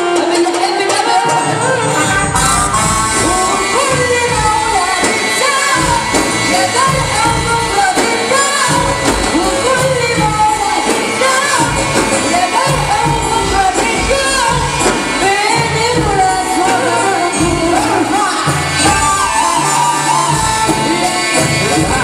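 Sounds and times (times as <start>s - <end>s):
amplified wedding band music: 0.0s - 22.0s
keyboard: 0.0s - 22.0s
man singing into a microphone: 0.0s - 22.0s
pulsing drum beat: 0.0s - 22.0s.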